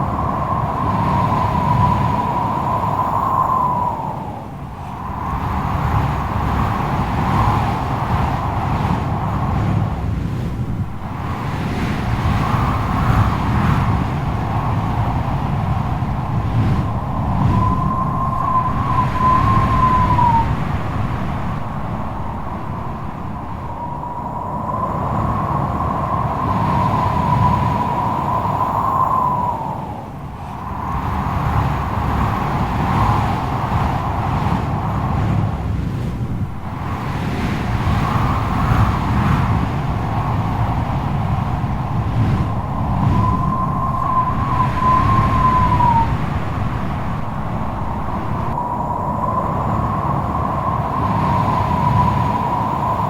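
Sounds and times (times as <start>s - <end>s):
low rumble of wind: 0.0s - 53.0s.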